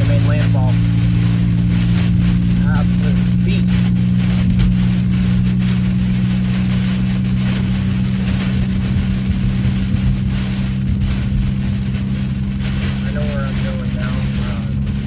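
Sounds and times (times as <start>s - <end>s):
low car hum: 0.0s - 15.0s
strong wind buffeting a car: 0.0s - 15.0s.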